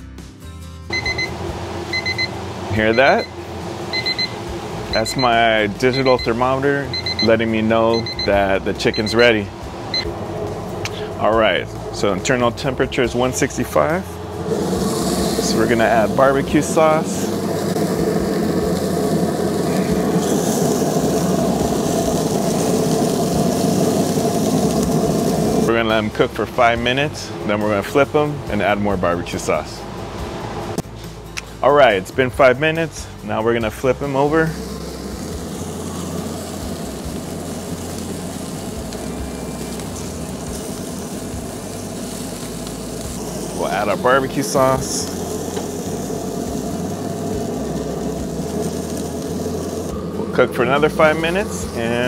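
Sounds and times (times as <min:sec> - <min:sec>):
machine running: 0:00.9 - 0:30.8, 0:31.7 - 0:52.0
pellet grill humming: 0:00.9 - 0:52.0
chicken sizzling on a grate: 0:01.0 - 0:29.0, 0:31.0 - 0:52.0
bright hiss: 0:01.1 - 0:28.2, 0:32.3 - 0:52.0.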